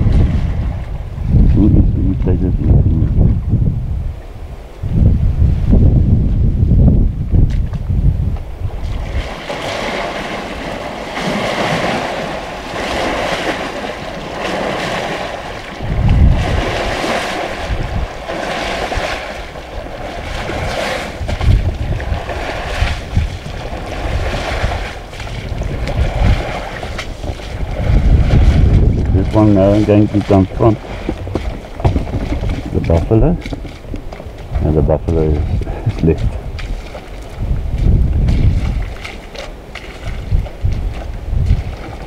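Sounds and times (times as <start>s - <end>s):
wind gusts buffeting: 0.0s - 42.0s
wind hissing across microphone: 0.0s - 42.0s.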